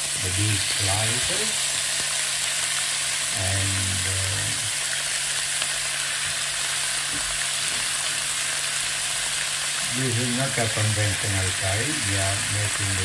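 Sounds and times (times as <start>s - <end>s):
beef sizzling in a pan: 0.0s - 13.0s.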